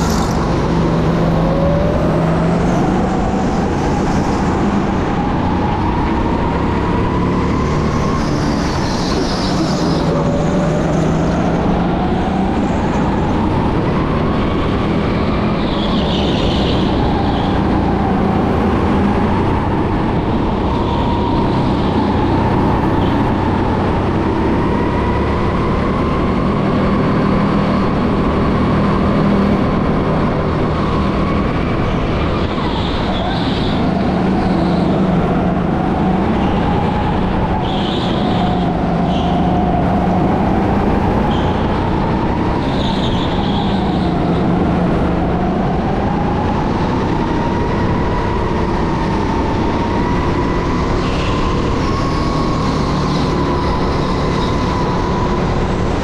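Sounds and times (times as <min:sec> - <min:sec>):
steady hum and tyre noise: 0:00.0 - 0:56.0.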